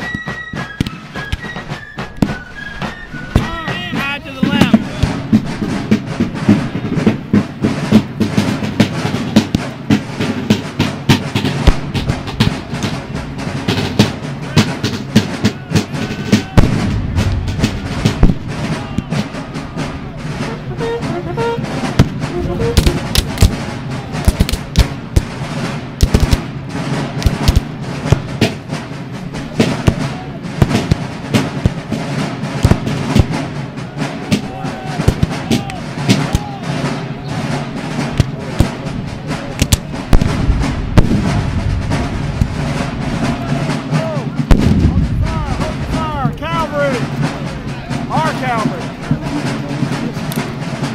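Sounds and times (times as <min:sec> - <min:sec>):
musket fire: 0:00.0 - 0:50.9.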